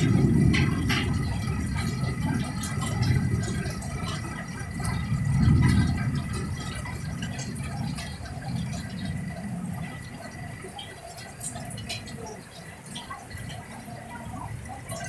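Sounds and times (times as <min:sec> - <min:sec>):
rain falling and dripping: 0:00.0 - 0:15.0
wind gusts buffeting microphone: 0:00.0 - 0:15.0.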